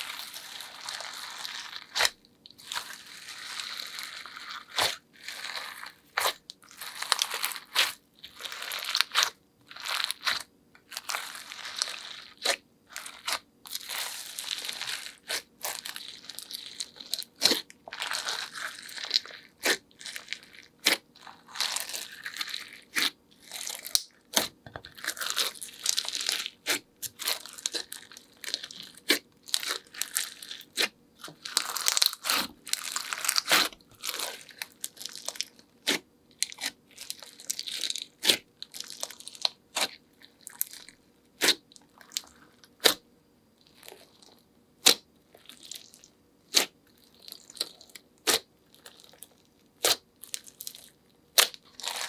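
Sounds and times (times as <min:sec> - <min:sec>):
slime popping and crackling: 0:00.0 - 0:43.0, 0:43.6 - 0:52.0.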